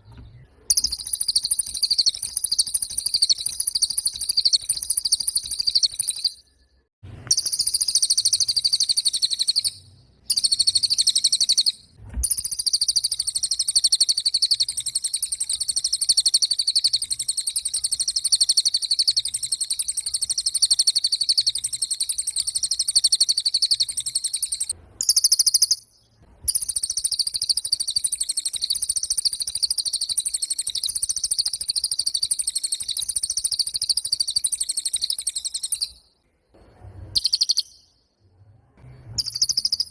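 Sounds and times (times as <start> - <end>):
bird high-pitched trill: 0.1 - 36.1, 36.8 - 38.0, 39.2 - 39.9.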